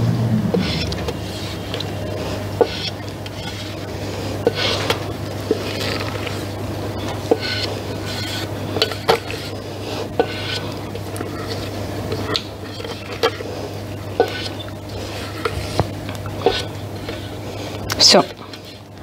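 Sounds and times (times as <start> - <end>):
low hum: 0.0 - 19.0
spatula scraping metal bowl: 0.5 - 18.9.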